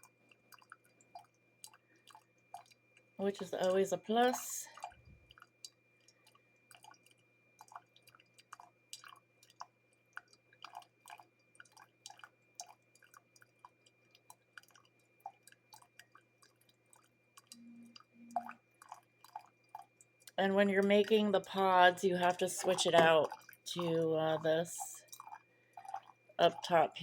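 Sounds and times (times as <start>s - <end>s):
small clicks and ticks: 0.0s - 27.0s.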